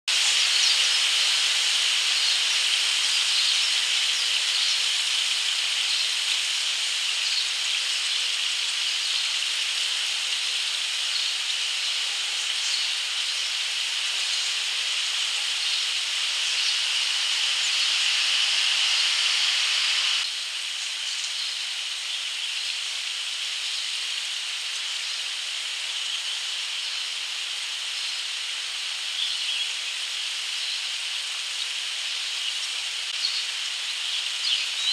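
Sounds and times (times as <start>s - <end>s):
high-pitched hiss: 0.1s - 34.9s.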